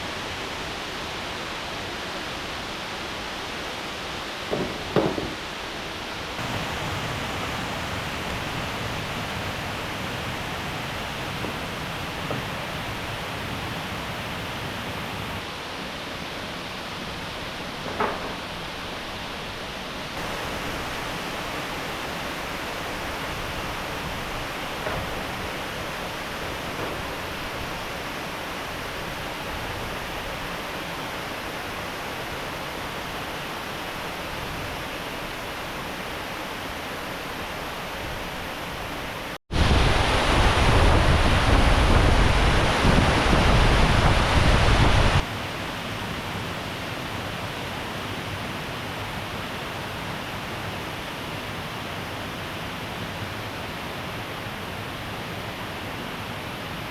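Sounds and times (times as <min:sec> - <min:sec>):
stream and waterfall rushing: 0:00.0 - 0:56.9.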